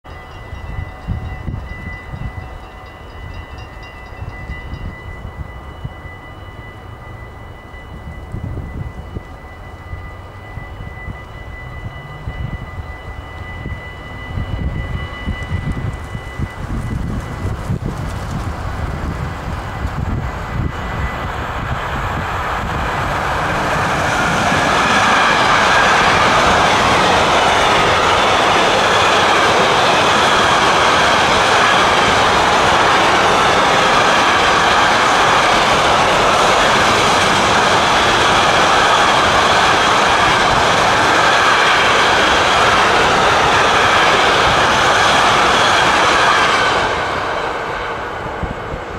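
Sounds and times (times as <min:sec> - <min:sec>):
freight train wheels rolling on rails: 0:00.0 - 0:48.9.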